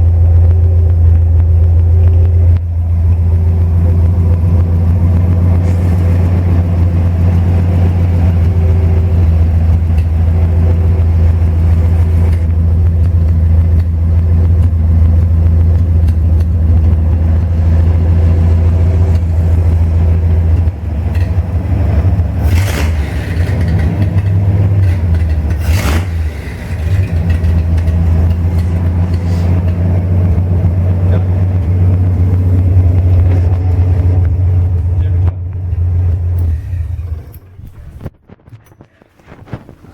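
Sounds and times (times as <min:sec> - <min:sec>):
car engine idling: 0:00.0 - 0:38.1.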